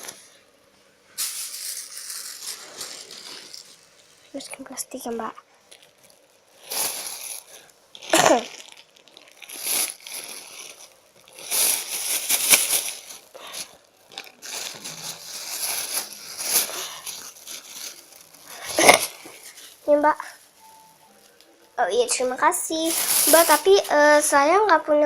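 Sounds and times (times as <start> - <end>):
plastic bag crinkling: 1.2 - 24.5.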